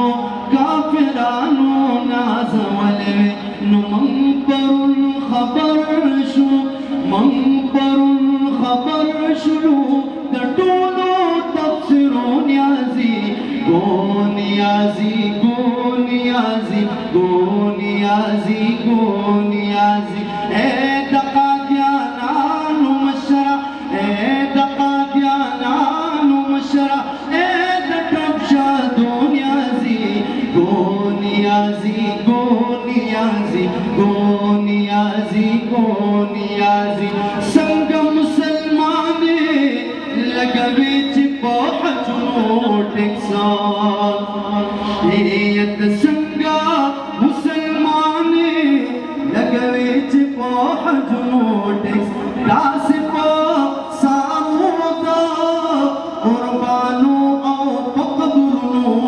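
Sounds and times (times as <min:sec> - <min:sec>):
man singing over loudspeakers: 0:00.0 - 0:59.0.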